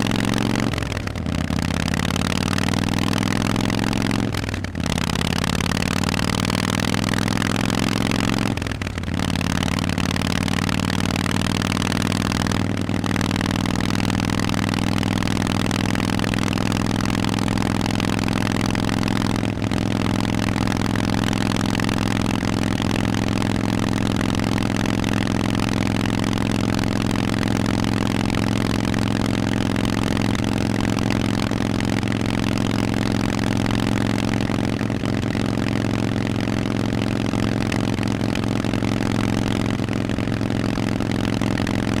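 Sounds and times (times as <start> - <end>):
motorcycle engine cruising: 0.0 - 42.0.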